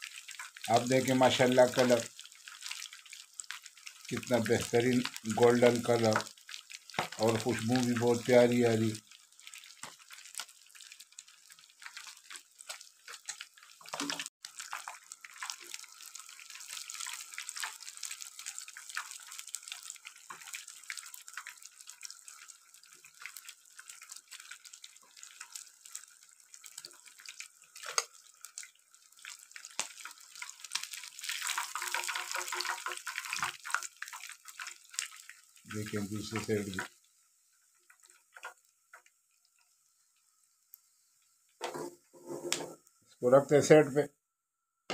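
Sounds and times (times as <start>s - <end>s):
fish deep-frying in hot oil: 0.0s - 43.8s.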